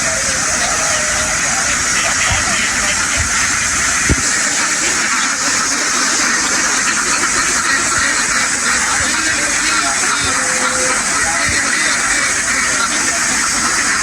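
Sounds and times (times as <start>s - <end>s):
flock of ducks quacking: 0.0s - 14.0s.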